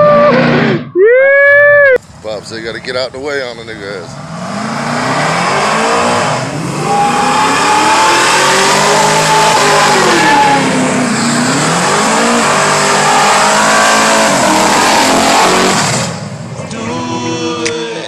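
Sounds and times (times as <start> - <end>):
car engine revving: 2.0 - 17.6.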